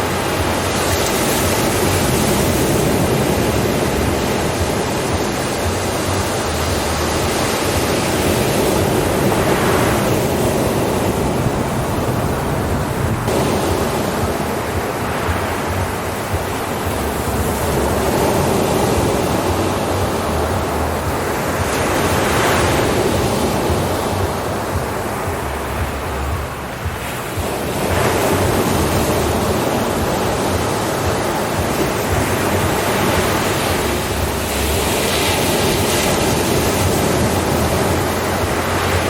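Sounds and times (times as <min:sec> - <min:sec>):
ocean waves breaking: 0:00.0 - 0:39.0.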